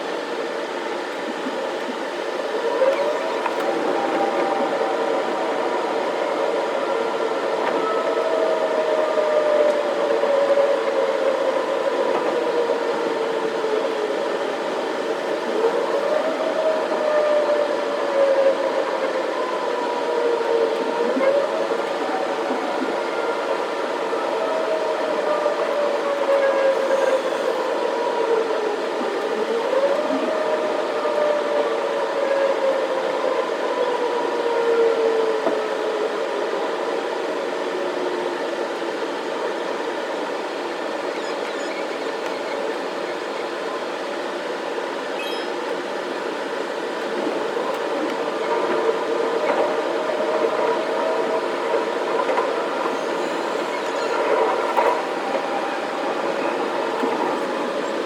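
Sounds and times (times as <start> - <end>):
electric train hum and whine: 0.0 - 58.0.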